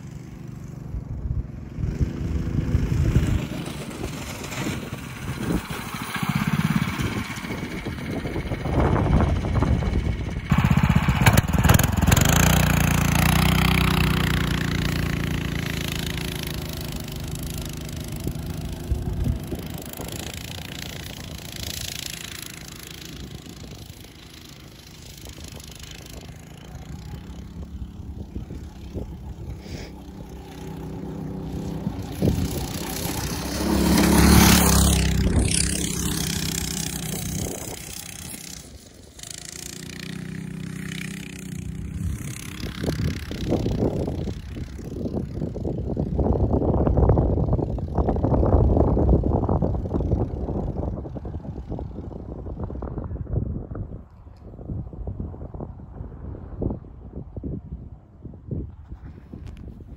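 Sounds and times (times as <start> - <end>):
small petrol engine revving: 0.0 - 52.5.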